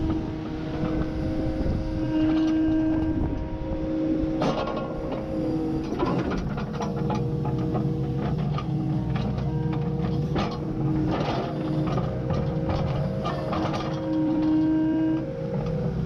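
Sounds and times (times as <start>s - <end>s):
excavator diesel drone: 0.0s - 16.0s
hydraulic whine: 0.0s - 16.0s.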